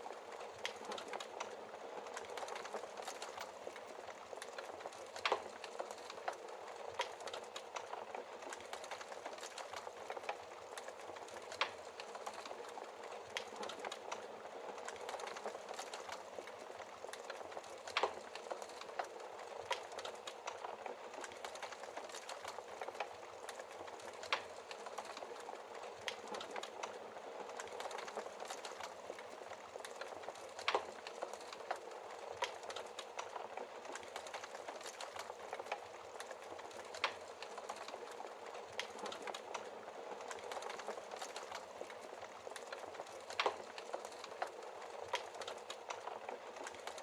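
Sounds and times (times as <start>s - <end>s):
fire popping: 0.0s - 47.0s
wood fire crackling: 0.0s - 47.0s.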